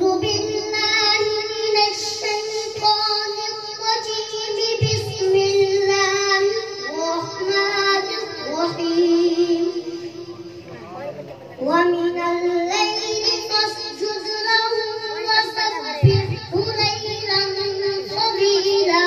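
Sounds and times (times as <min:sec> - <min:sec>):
boy chanting into a microphone: 0:00.0 - 0:19.0.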